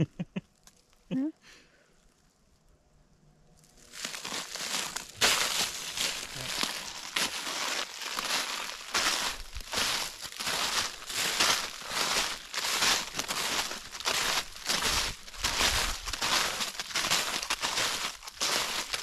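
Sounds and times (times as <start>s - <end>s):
footsteps crunching dry leaves: 3.6s - 19.0s.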